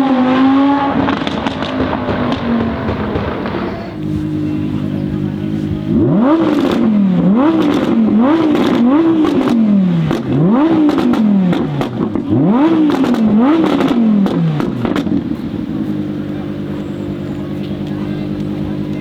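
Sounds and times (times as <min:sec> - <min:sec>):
car engine revving: 0:00.0 - 0:19.0
exhaust crackles and pops: 0:00.7 - 0:19.0.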